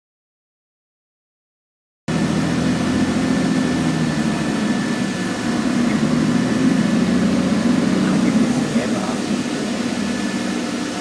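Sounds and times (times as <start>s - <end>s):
bus diesel engine running: 2.1s - 11.0s.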